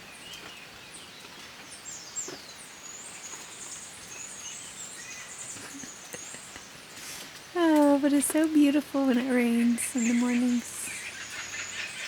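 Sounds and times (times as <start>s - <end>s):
birds chirping: 0.0s - 12.0s
rain hissing: 0.8s - 12.0s.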